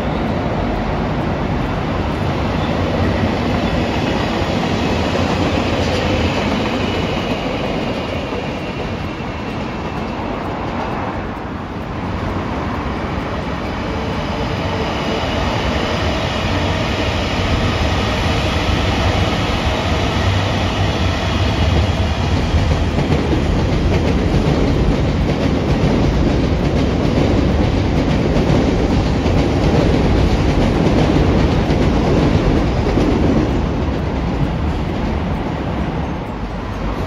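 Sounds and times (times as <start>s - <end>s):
train running past: 0.0s - 37.0s.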